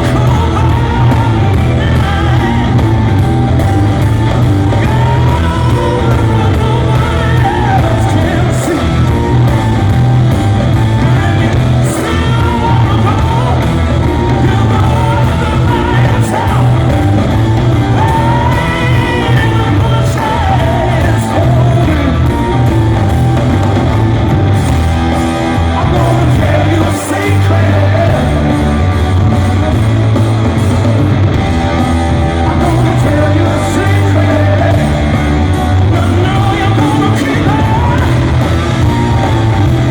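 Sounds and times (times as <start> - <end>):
man singing: 0.0 - 23.0, 25.6 - 29.0, 32.3 - 39.9
live rock band playing: 0.0 - 39.9.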